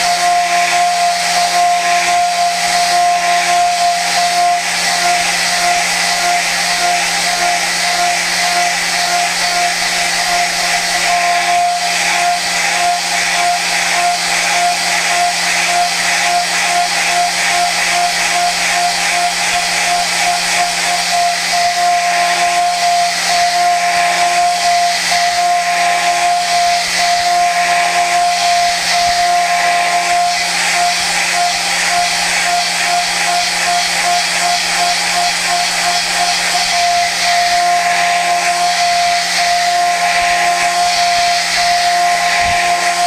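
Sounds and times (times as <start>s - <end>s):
high cutting tone over hiss: 0.0s - 43.0s
milling machine cutting steel: 0.0s - 43.0s.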